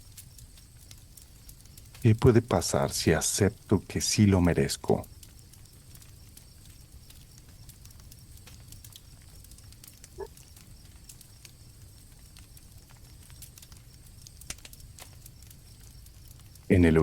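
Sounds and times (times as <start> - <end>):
campfire crackling: 0.0 - 17.0
crickets chirring: 0.0 - 17.0.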